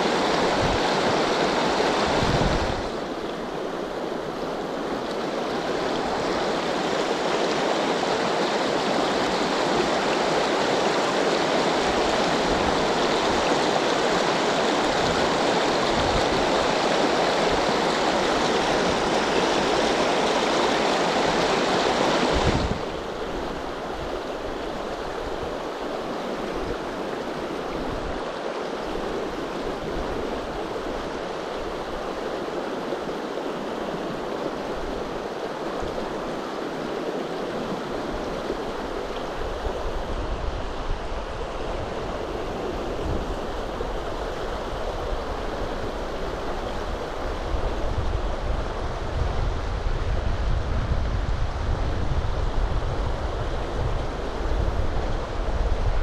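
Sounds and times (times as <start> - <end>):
river rapids rushing: 0.0 - 50.4.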